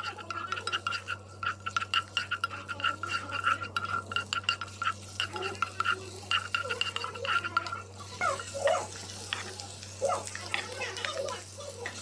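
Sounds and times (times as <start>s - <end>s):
wooden spoon scraping a pan: 0.0s - 12.0s.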